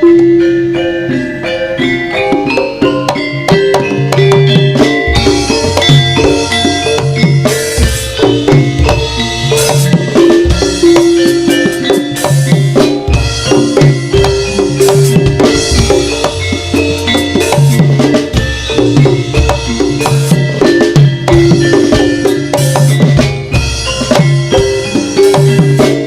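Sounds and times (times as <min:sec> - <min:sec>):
driving drums and percussion: 0:00.0 - 0:26.0
held melodic notes: 0:00.0 - 0:26.0.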